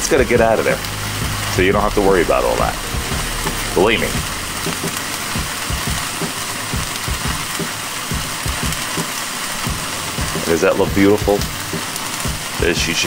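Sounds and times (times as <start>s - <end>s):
burning fat hissing: 0.0s - 13.0s
flames roaring on a grill: 0.0s - 13.0s.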